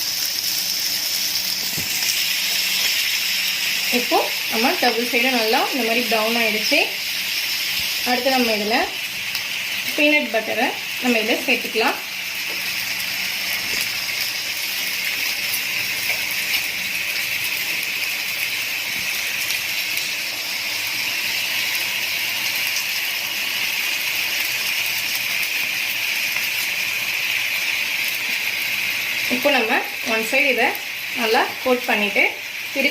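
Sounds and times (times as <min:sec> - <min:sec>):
chicken frying in oil: 0:00.0 - 0:32.9.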